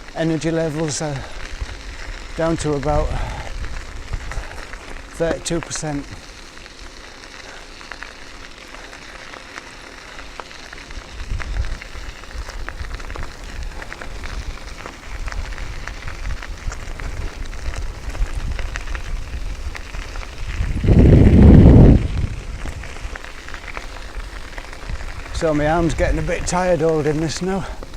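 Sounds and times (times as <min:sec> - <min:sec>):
wind buffeting microphone: 0:00.0 - 0:07.0, 0:10.8 - 0:27.9
steady crackling hiss: 0:00.0 - 0:27.9.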